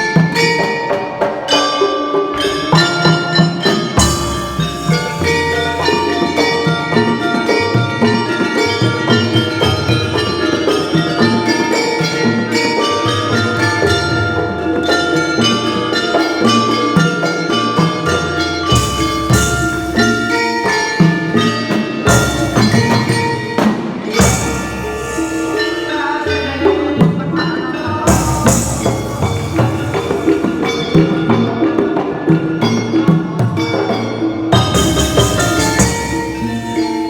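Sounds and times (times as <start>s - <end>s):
bronze metallophones ringing: 0.0s - 37.0s
drum strokes: 2.3s - 27.5s, 28.1s - 31.7s, 34.5s - 37.0s.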